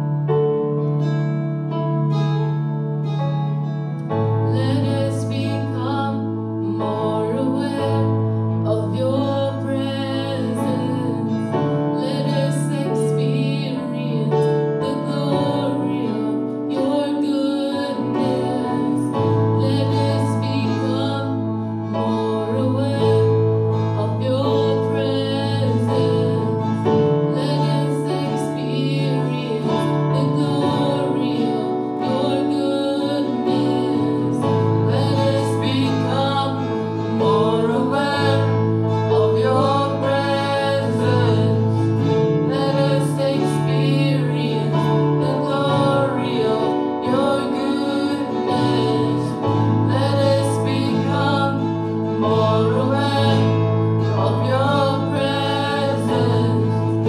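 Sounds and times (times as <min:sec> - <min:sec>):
acoustic guitar: 0:00.0 - 0:57.0
keyboard held notes: 0:00.0 - 0:57.0
woman singing: 0:04.4 - 0:57.0.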